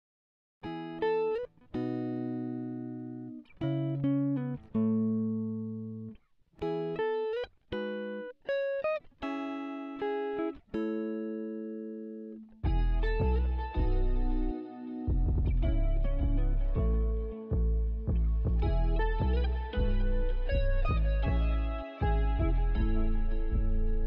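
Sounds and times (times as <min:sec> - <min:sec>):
clean guitar plucking: 0:00.6 - 0:24.0.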